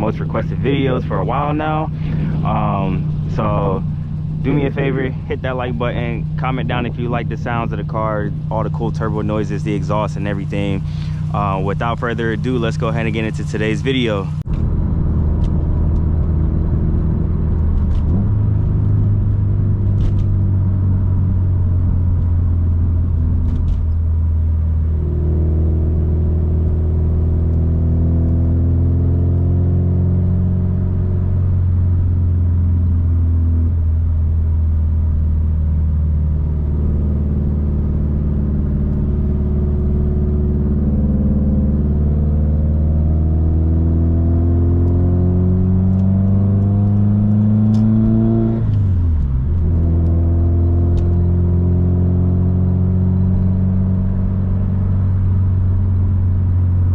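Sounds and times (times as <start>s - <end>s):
car engine and exhaust accelerating: 0.0s - 56.9s.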